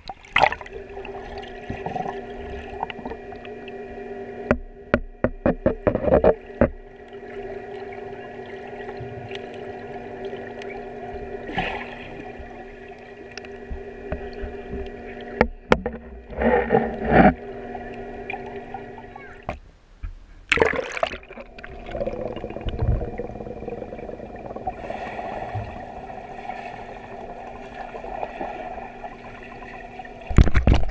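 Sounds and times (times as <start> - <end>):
underwater splashing and bubbling: 0.0 - 19.6, 20.5 - 30.9
muffled underwater hum: 0.0 - 30.9.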